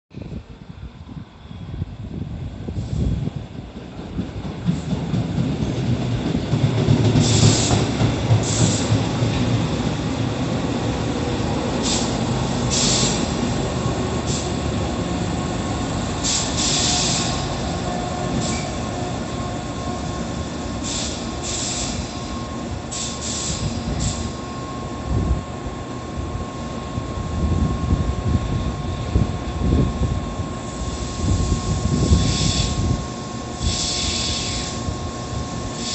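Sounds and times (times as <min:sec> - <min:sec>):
train rumbling on rails: 0:00.1 - 0:35.9.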